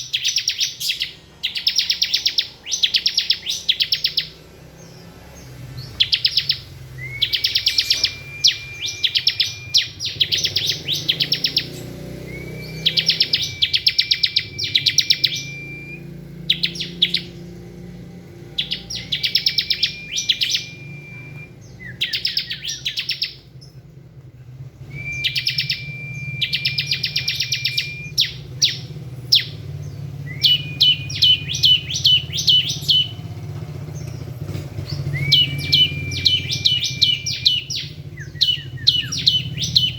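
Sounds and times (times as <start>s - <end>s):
bird singing rattling notes and whistle: 0.0s - 39.9s.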